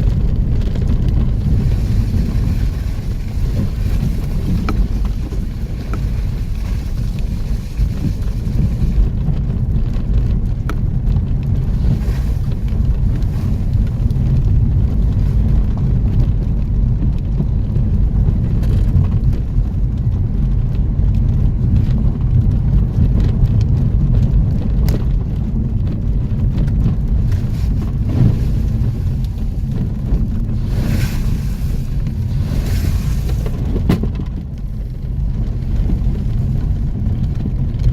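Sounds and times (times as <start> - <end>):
off-road vehicle rumbling: 0.0 - 37.9.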